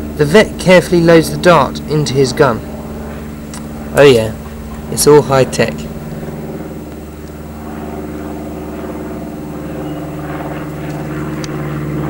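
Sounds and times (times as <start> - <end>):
propeller plane engine hum: 0.0 - 12.0.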